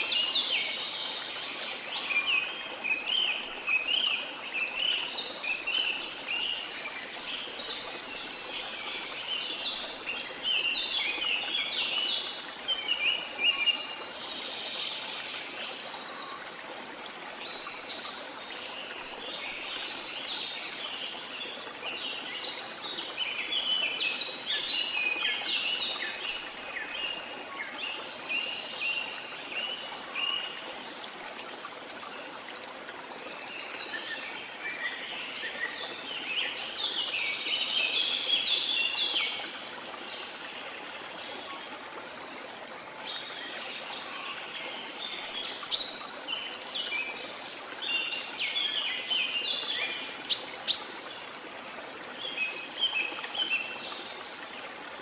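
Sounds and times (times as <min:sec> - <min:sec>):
rush of falling water: 0:00.0 - 0:55.0.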